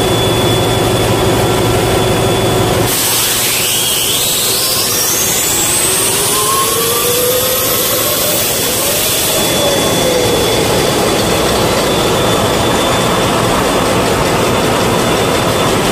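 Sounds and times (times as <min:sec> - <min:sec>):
diesel engine running: 0:00.0 - 0:15.9
turbocharger whine: 0:00.0 - 0:15.9.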